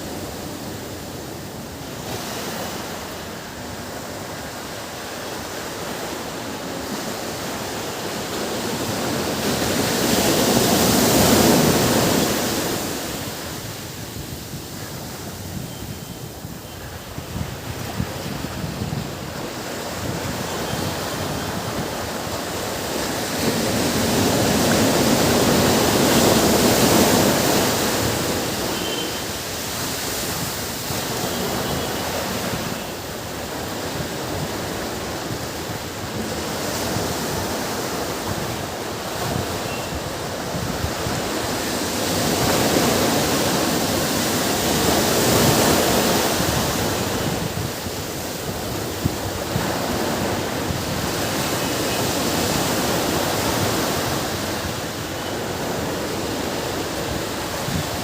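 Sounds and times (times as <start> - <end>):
ocean waves breaking: 0.0 - 15.6, 16.3 - 58.0.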